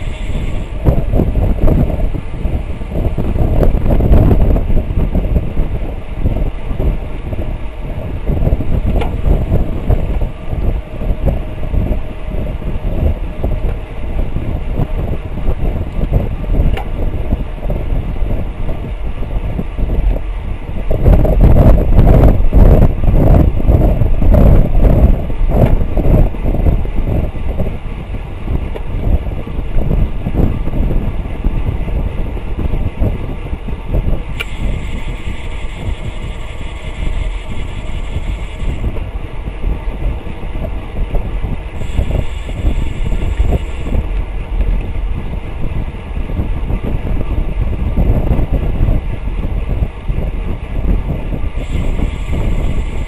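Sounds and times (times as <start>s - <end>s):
bicycle freehub buzzing: 0.0s - 53.0s
road rumble: 0.0s - 53.0s
wind rush: 0.0s - 53.0s.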